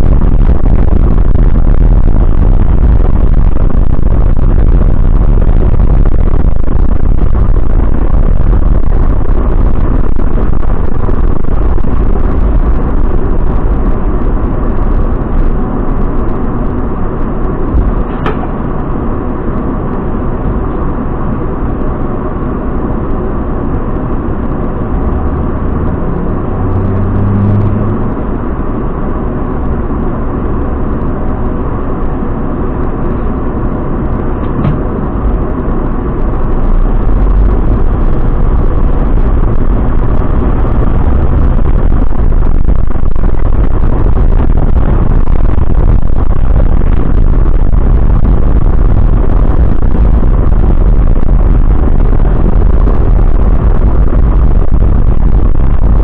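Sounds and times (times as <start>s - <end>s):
coach engine and road noise: 0.0s - 56.0s.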